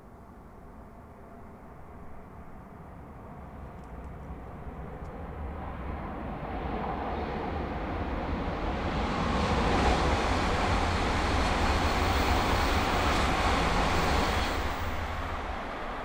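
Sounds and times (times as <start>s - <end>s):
high-speed train passing: 0.8s - 16.0s.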